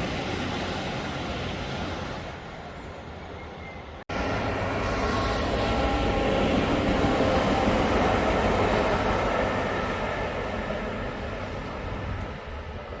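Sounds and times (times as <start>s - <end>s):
track machine passing on rails: 0.0s - 13.0s.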